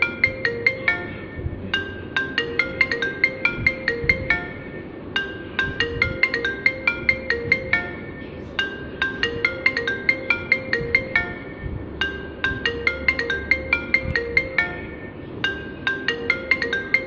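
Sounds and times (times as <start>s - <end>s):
marimba-like ringtone melody: 0.0s - 17.0s.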